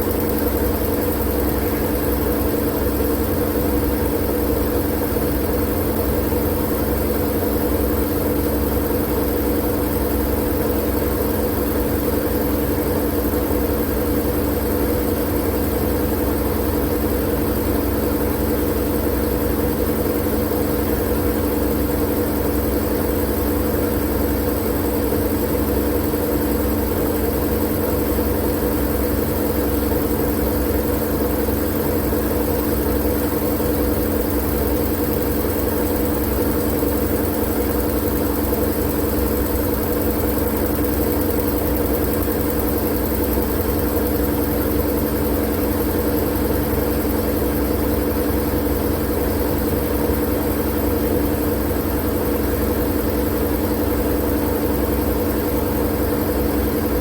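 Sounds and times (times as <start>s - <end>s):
white noise machine hum: 0.0s - 57.0s.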